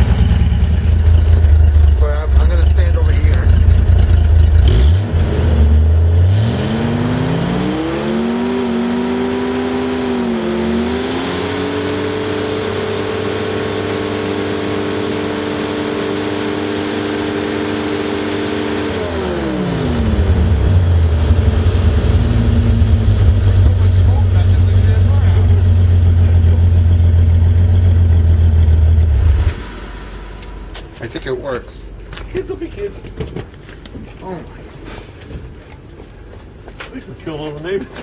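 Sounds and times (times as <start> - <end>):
car engine idling and revving: 0.0 - 33.7.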